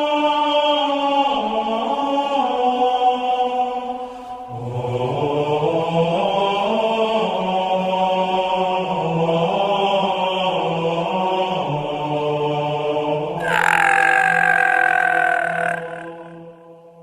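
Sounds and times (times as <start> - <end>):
slow chant-like music: 0.0 - 17.0.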